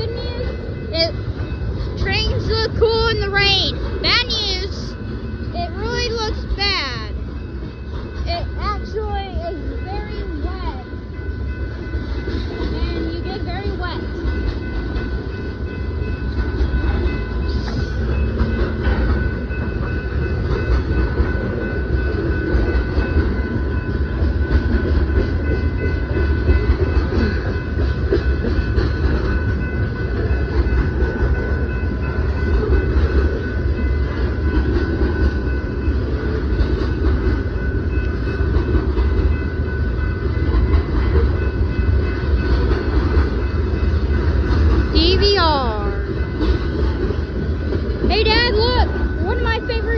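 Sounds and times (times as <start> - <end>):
crossing bell ringing tone: 0.0 - 49.9
freight train wheels rumbling: 0.0 - 49.9.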